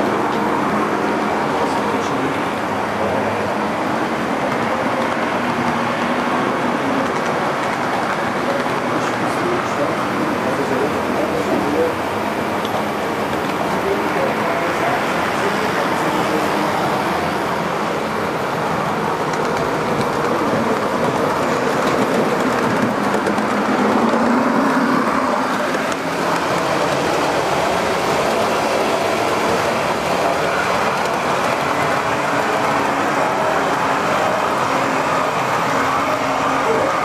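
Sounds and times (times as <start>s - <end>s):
model train rumbling on track: 0.0s - 37.0s.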